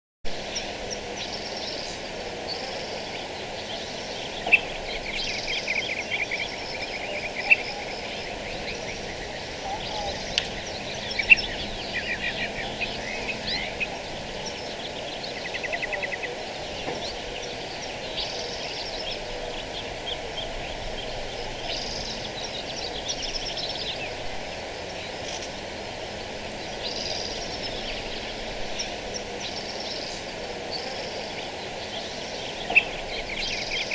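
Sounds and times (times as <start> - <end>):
outdoor background noise: 0.3 - 33.9
small birds chirping and trilling: 0.3 - 33.9.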